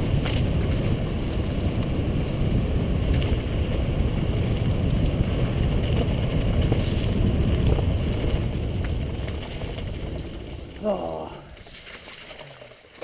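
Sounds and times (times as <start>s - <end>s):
wind buffeting microphone: 0.0s - 11.8s
bicycle tyres rumbling on dirt: 0.0s - 13.0s.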